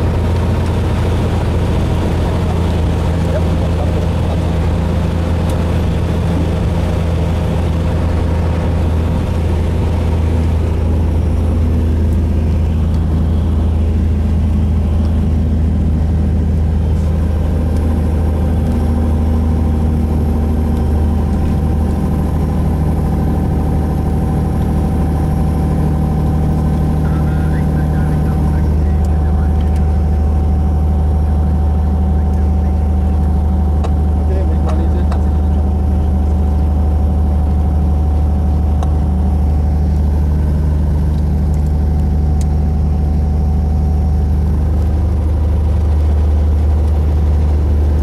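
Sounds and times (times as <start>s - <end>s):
propeller engine droning: 0.0s - 48.0s.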